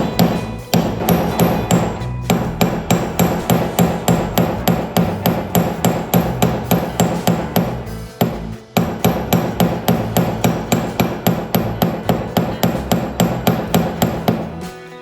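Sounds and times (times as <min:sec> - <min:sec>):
hammer striking metal rivets: 0:00.0 - 0:14.6.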